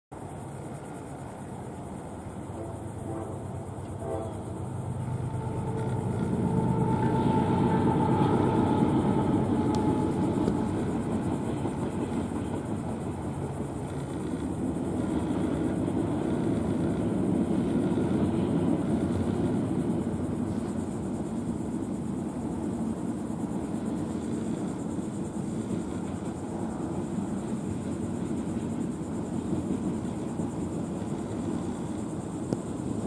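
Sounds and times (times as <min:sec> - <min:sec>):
steel wheels rumbling on rails: 0:00.2 - 0:33.0.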